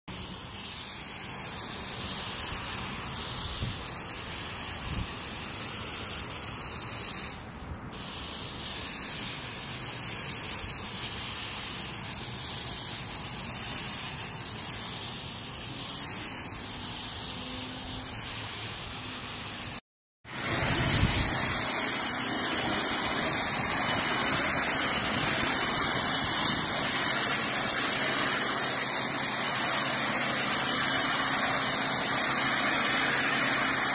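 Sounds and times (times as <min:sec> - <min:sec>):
garden hose spraying fence: 0:00.0 - 0:33.9
pressure washer spraying: 0:00.1 - 0:33.9.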